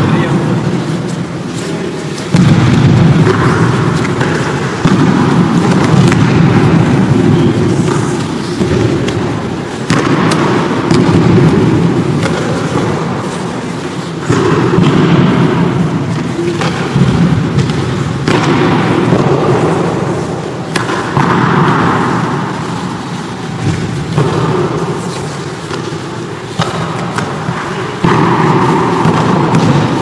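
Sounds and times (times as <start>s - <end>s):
echoing hall din: 0.0s - 30.0s.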